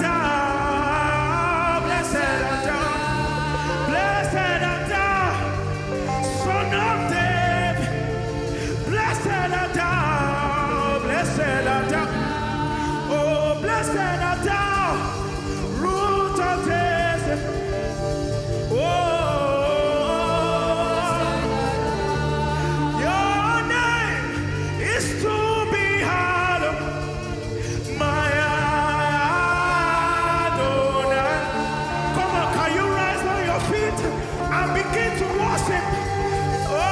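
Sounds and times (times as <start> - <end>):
backing band playing: 0.0 - 36.9
person singing ornamented vocals: 0.0 - 36.9.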